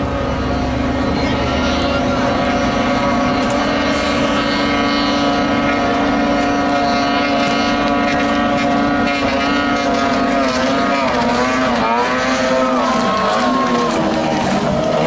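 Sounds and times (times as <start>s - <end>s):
outboard motors whining: 0.0s - 15.0s.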